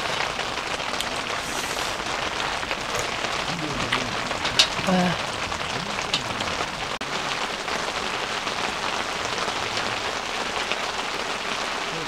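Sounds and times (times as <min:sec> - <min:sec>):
rain falling on a tent: 0:00.0 - 0:12.0.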